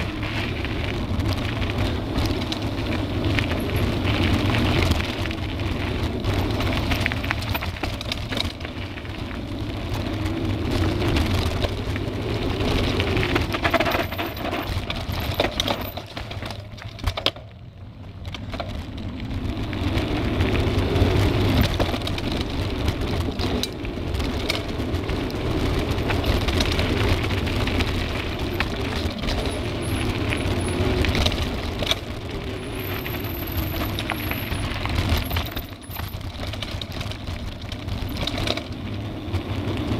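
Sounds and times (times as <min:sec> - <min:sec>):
bike rattling over bumps: 0:00.0 - 0:39.9
tyre and wind rumble: 0:00.0 - 0:39.9.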